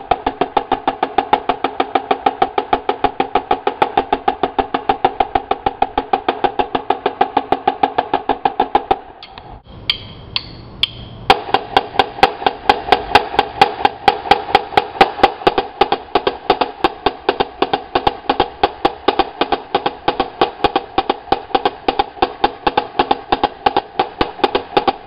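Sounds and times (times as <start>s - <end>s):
marching snare drums: 0.0s - 9.0s, 11.3s - 25.0s.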